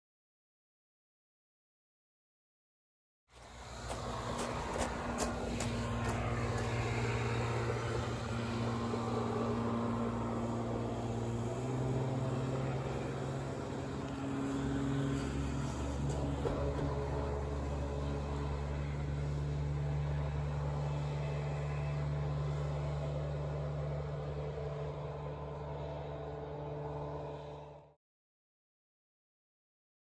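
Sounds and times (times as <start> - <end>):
motorboat engine droning: 3.4 - 28.0.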